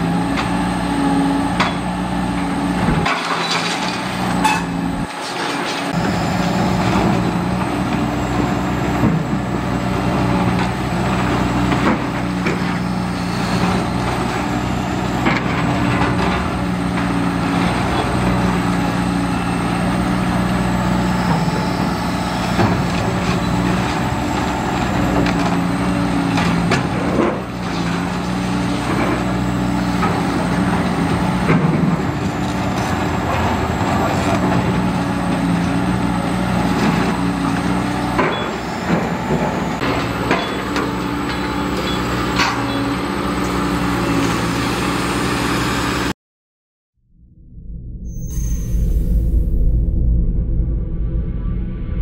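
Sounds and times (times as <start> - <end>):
excavator diesel engine running: 0.0 - 46.1.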